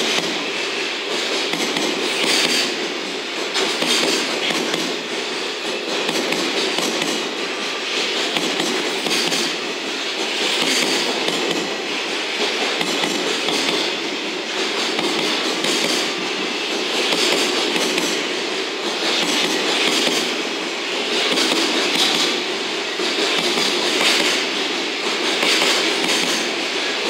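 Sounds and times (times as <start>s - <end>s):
freight train wheels clattering on rails: 0.0s - 27.0s.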